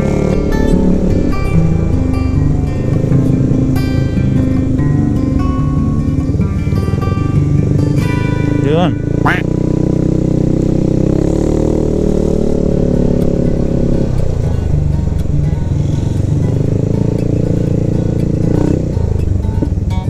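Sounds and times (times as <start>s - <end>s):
scooter engine running: 0.0s - 20.0s.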